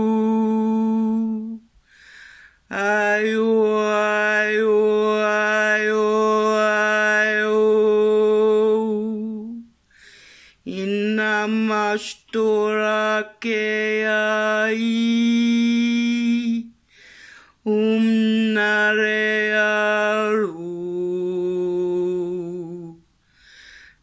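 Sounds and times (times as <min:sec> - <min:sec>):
woman singing held wordless notes: 0:00.0 - 0:01.8, 0:02.6 - 0:09.8, 0:10.5 - 0:23.1.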